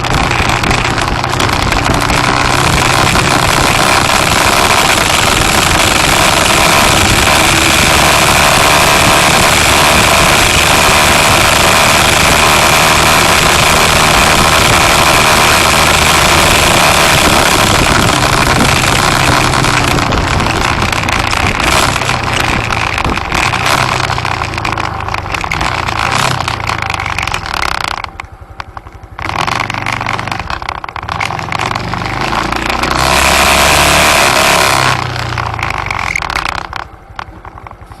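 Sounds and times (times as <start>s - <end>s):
vehicle engine hum: 0.0s - 38.0s
wind and road noise rush: 0.0s - 38.0s.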